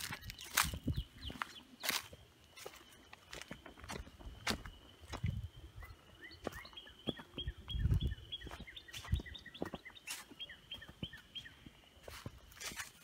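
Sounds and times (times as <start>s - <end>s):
bird chirping: 0.0s - 13.0s
footsteps on dry grass: 0.0s - 13.0s.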